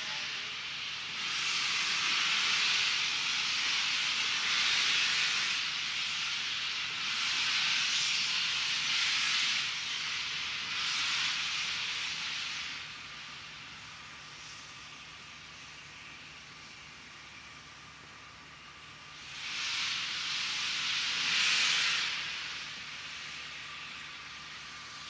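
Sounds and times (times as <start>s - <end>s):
steam locomotive steam hiss: 0.0s - 25.0s.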